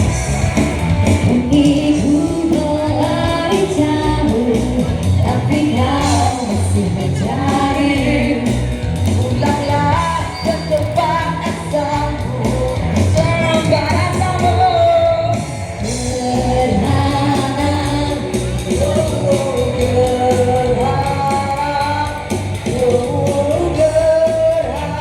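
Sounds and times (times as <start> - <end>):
band playing: 0.0 - 25.0
person singing pop-rock song: 0.0 - 25.0.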